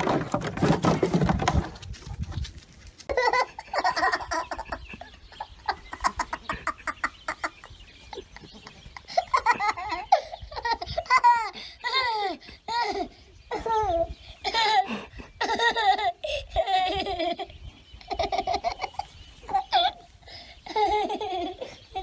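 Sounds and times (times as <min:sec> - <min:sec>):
person laughing: 0:03.1 - 0:22.0.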